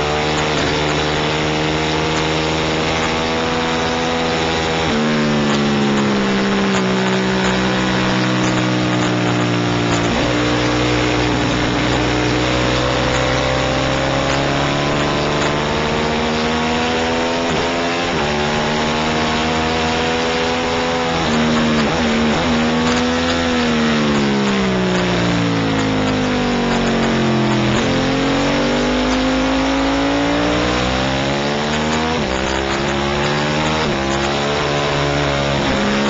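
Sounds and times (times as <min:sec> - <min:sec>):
racing motorcycle engine: 0:00.0 - 0:36.0.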